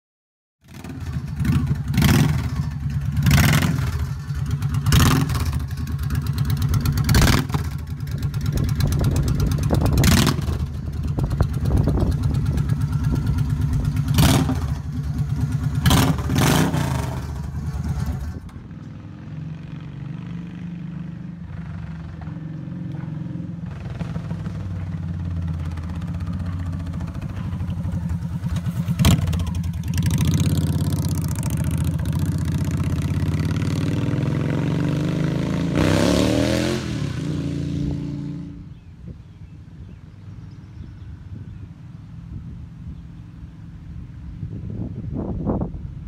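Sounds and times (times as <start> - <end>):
motorcycle engine revving: 0.6 - 38.8.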